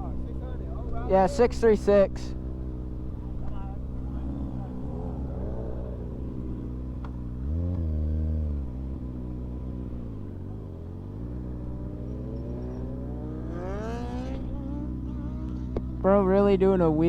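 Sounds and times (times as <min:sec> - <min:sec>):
motorcycle engine idling: 0:00.0 - 0:17.0
motorcycle revving and accelerating: 0:00.0 - 0:17.0.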